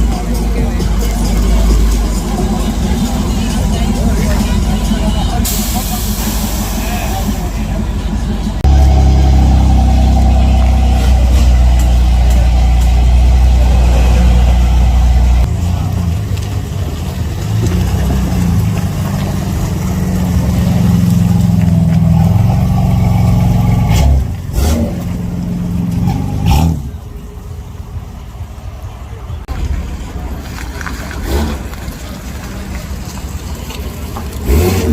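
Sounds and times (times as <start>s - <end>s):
car engines droning: 0.0s - 34.9s.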